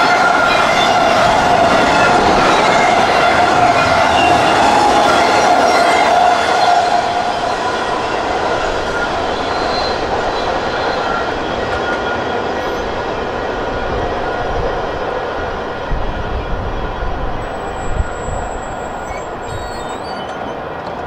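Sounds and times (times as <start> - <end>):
train wheels squealing: 0.0 - 14.7, 15.9 - 21.0
freight train wheels rumbling: 0.0 - 21.0.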